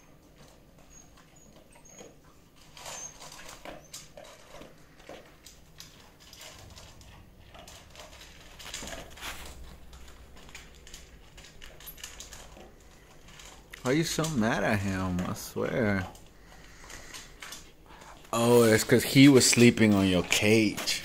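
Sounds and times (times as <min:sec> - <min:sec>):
wire dog crate rattling: 0:00.0 - 0:21.0.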